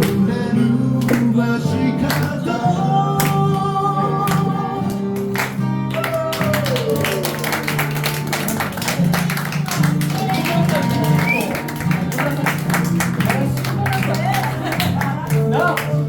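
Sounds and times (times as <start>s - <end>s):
strummed guitar: 0.0s - 16.0s.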